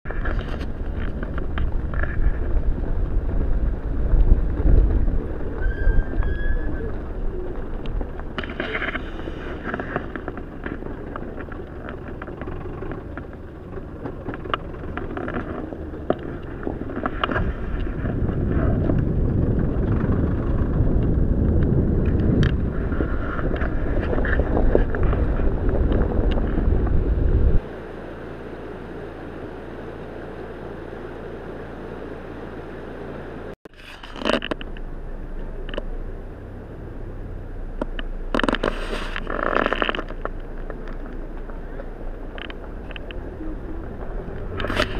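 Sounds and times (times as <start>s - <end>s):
car driving over gravel: 0.1s - 44.9s.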